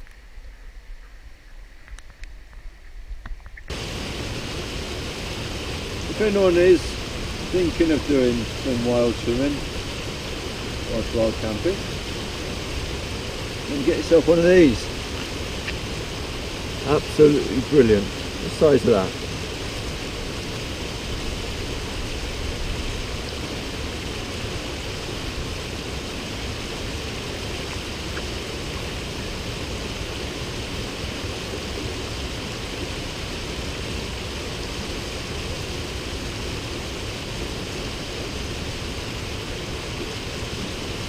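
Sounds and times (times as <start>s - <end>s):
waterfall rushing: 3.7s - 41.0s.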